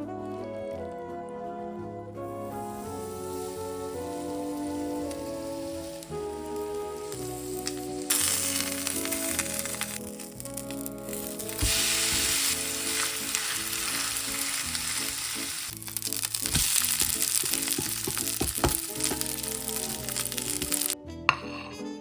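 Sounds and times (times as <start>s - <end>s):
background music: 0.0s - 22.0s
food sizzling in a pan: 2.5s - 21.0s.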